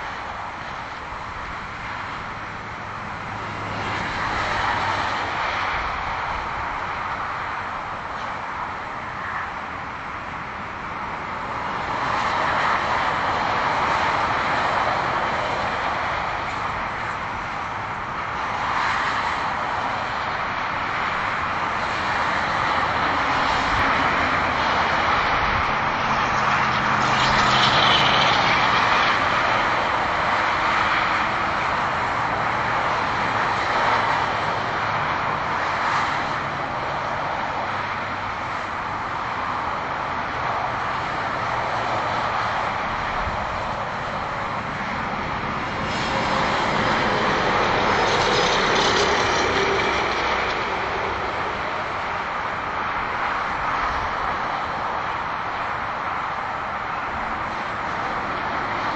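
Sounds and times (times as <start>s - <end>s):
highway traffic rushing past: 0.0s - 58.9s.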